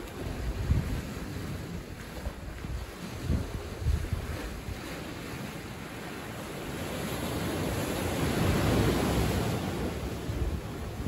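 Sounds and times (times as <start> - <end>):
ocean waves breaking on sand: 0.0 - 11.0.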